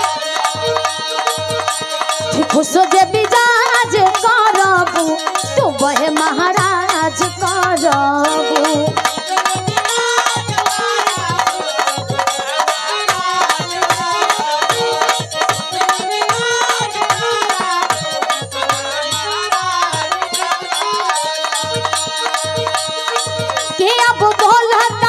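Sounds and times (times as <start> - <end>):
fast hand drum rhythm: 0.0 - 25.0.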